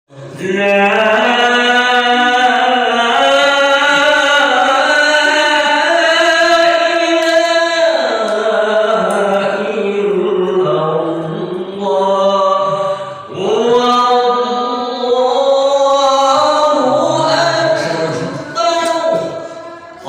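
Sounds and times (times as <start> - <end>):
solo voice chanting: 0.1 - 20.0.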